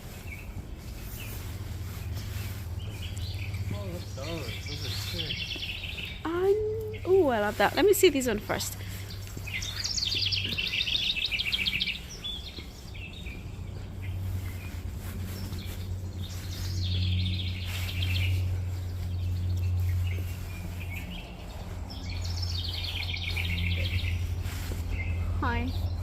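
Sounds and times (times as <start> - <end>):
songbird chirping in high trills: 0.0 - 26.0.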